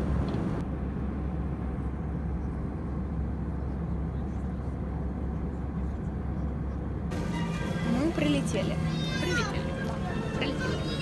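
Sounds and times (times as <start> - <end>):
jet airliner cabin drone: 0.0 - 11.0.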